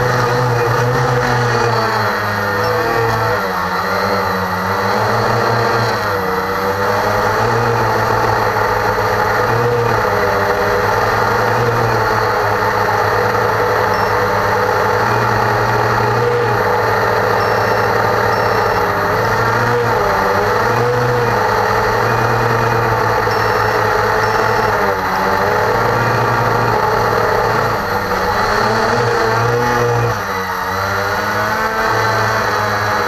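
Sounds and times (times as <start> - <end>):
drone motors buzzing: 0.0 - 33.0.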